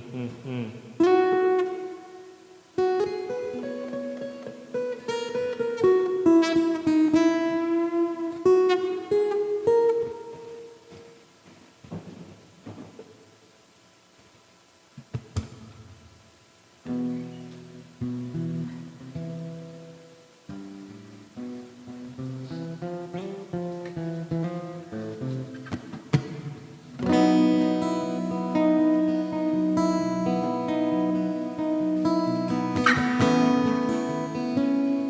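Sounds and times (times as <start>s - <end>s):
guitar chords strummed: 0.9s - 11.2s, 16.8s - 35.0s
guitar single notes picked: 1.0s - 11.2s, 16.9s - 35.0s.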